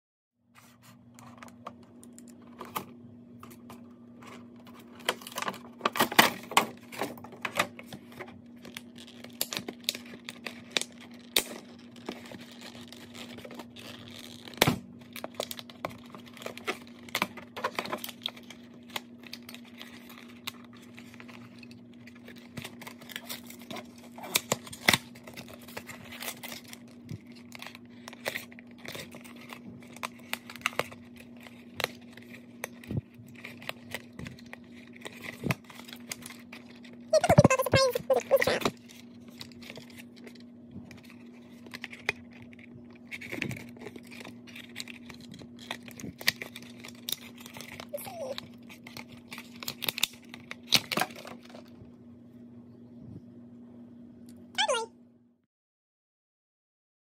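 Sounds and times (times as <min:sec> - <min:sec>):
plastic packaging crinkling: 0:03.5 - 0:51.8.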